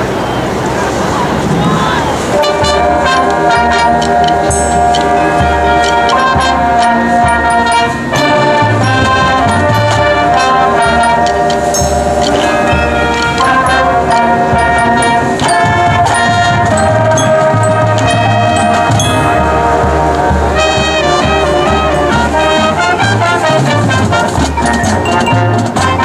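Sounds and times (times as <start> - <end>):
drums keeping steady beat: 1.5 - 26.0
brass holding full chords: 2.0 - 26.0.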